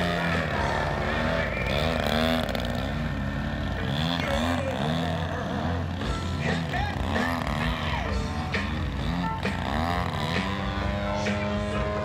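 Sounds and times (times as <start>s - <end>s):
model plane engine revving: 0.0s - 12.0s.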